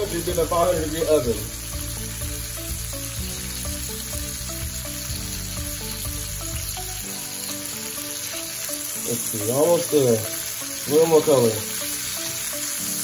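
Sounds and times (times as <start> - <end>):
background music: 0.0 - 13.0
chicken sizzling in oil: 0.0 - 13.0.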